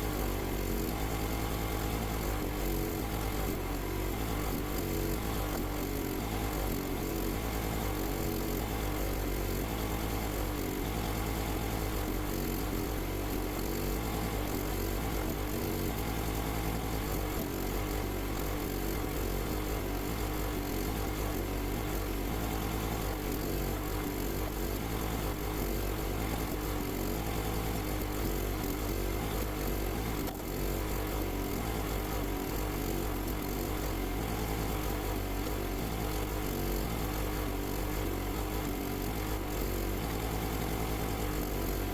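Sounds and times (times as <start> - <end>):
small petrol engine running: 0.0 - 41.9.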